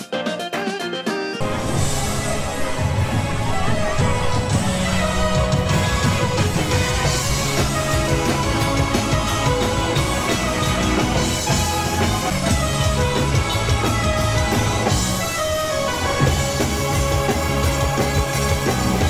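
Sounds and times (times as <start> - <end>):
rock music with drums and guitar: 0.0 - 19.0.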